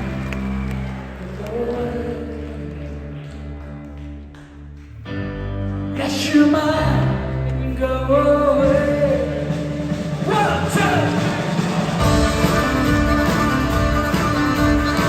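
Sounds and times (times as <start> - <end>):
live band music with singing: 0.0 - 15.0.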